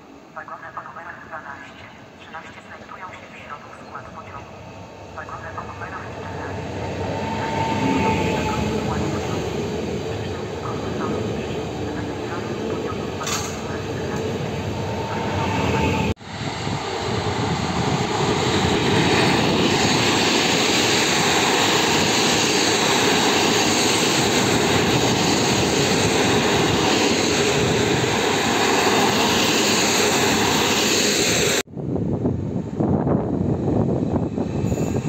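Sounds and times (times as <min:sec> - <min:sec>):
electric train pulling away: 0:04.4 - 0:35.0
train wheels rushing on rails: 0:05.2 - 0:31.6, 0:32.8 - 0:35.0.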